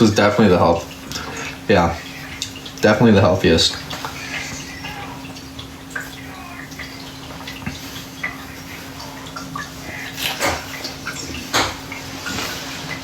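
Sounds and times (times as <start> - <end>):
water dripping and trickling: 0.0 - 13.0
water fountain pump hum: 0.0 - 13.0.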